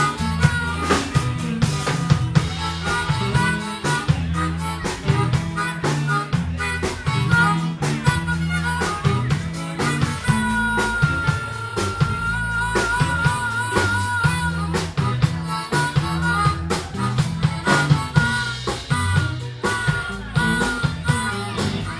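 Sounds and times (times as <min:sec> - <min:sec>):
amplified harmonica: 0:00.0 - 0:21.9
drums: 0:00.0 - 0:21.9.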